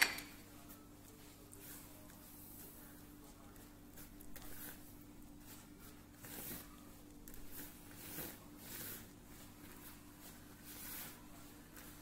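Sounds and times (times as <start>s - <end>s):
hand swishing flour in bowl: 0.4s - 12.0s.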